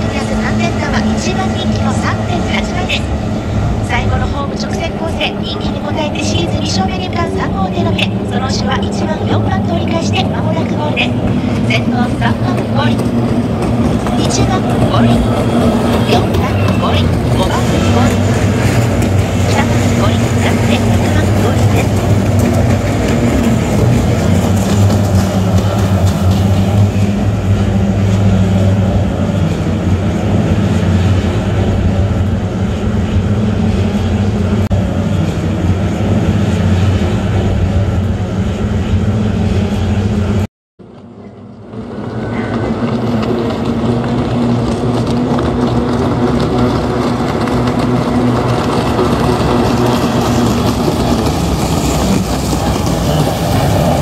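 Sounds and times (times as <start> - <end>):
outboard engines droning: 0.0 - 54.0.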